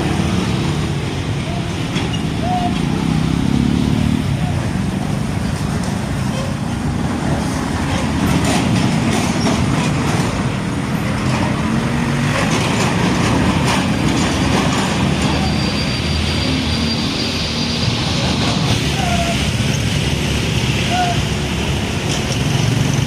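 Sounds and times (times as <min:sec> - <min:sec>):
heavy vehicle rumbling past: 0:00.0 - 0:23.0.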